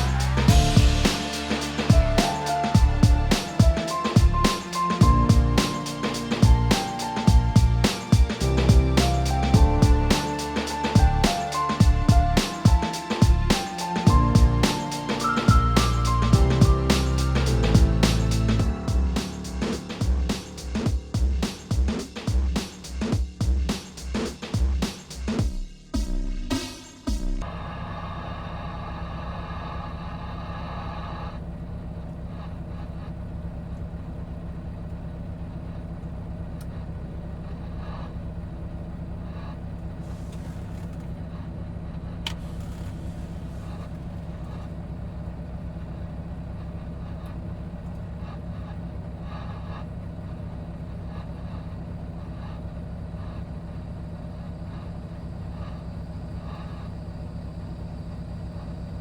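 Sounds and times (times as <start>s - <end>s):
diesel engine running: 0.0s - 24.8s, 27.4s - 59.0s.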